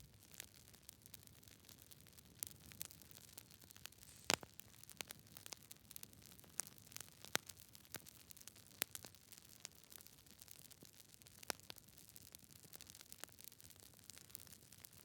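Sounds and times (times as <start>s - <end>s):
wood fire crackling: 0.1s - 15.0s.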